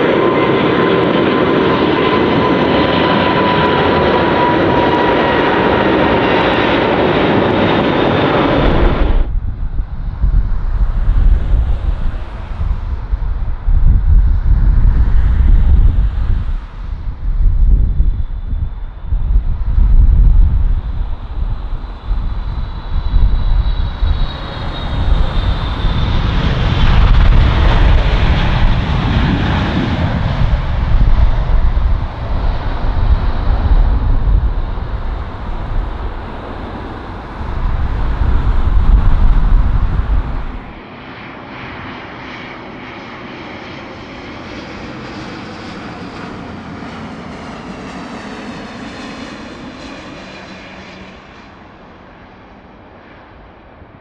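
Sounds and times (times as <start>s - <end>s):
jet engine hum and whine: 0.0s - 54.0s
jet engines roaring: 0.0s - 54.0s.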